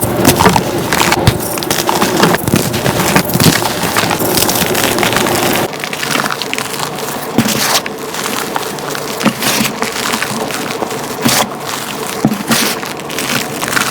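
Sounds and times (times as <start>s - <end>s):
chalk blocks crunching: 0.0s - 13.9s.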